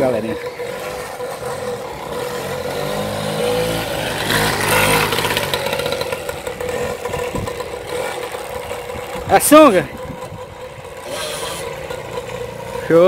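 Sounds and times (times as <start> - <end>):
moped engine revving: 0.0 - 13.0.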